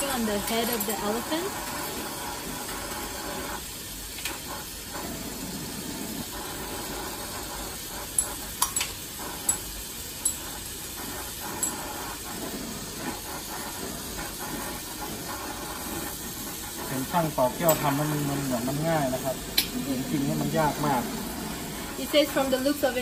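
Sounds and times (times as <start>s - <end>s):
torch flame hissing: 0.0s - 23.0s.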